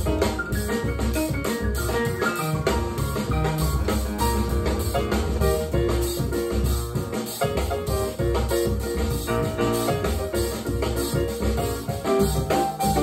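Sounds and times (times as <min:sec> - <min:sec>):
music with beat and strong bass: 0:00.0 - 0:13.0.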